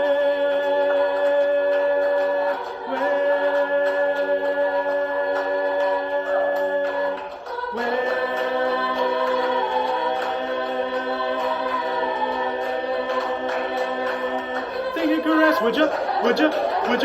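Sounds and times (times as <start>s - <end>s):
a cappella voices singing chords: 0.0s - 17.0s.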